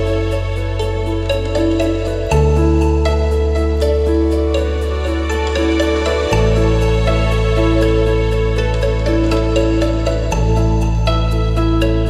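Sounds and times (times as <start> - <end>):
soft new-age instrumental music: 0.0 - 12.0.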